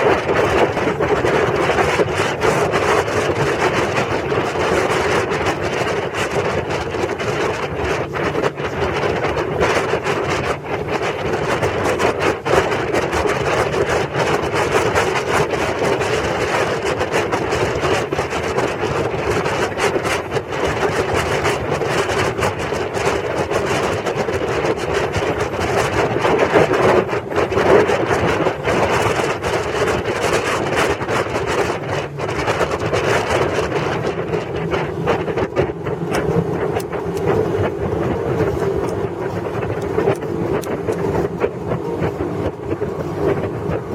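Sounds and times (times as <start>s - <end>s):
motorboat engine running: 0.0s - 43.9s
rushing water: 0.0s - 43.9s
wind buffeting microphone: 0.0s - 43.9s.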